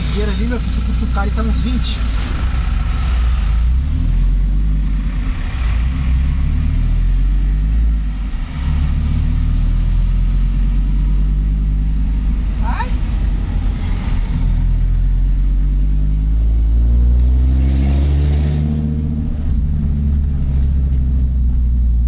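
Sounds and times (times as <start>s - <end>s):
loud engine rumble without exhaust: 0.0s - 22.0s.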